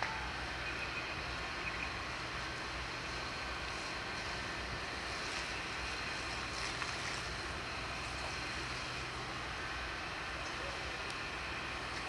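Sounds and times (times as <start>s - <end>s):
fire engine pumps humming: 0.0s - 12.0s.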